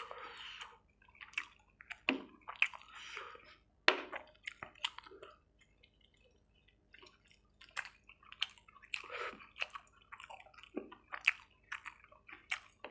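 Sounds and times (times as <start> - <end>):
wet squishy chewing: 0.0 - 12.9.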